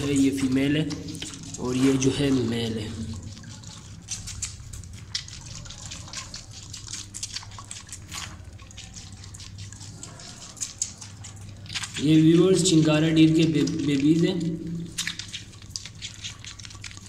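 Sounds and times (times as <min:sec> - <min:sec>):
fawn sucking from bottle: 0:00.0 - 0:17.0.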